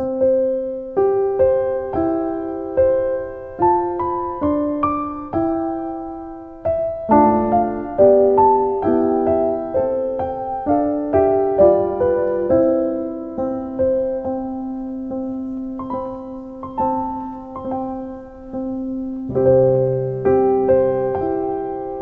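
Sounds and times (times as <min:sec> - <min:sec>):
gentle piano chords: 0:00.0 - 0:22.0.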